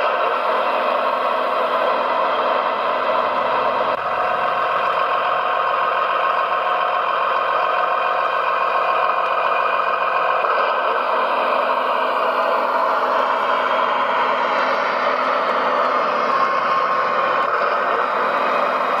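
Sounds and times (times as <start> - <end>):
toy construction machine drone: 0.0 - 19.0.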